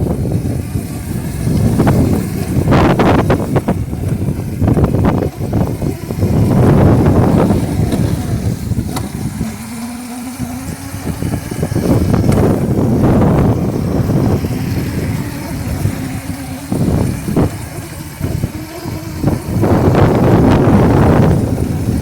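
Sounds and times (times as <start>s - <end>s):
electric motor whine: 0.0s - 22.0s
rushing noise: 0.0s - 22.0s.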